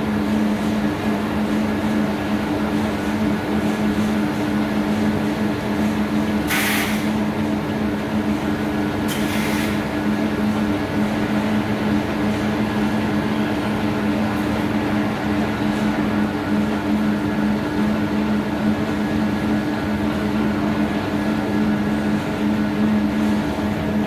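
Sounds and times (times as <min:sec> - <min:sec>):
industrial machinery hum: 0:00.0 - 0:24.0.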